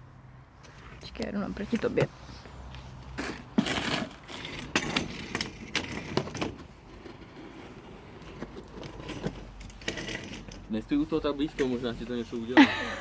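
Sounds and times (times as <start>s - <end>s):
sharp knocks and scrapes: 1.7s - 12.5s.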